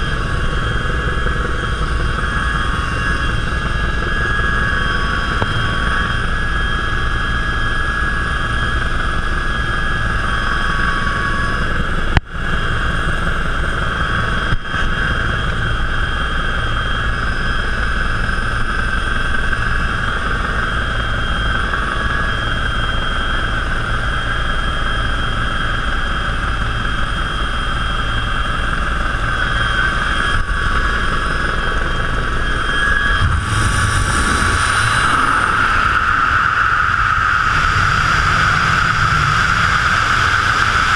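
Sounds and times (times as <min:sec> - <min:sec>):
helicopter rotor drone: 0:00.0 - 0:40.9
helicopter turbine whine: 0:00.0 - 0:40.9.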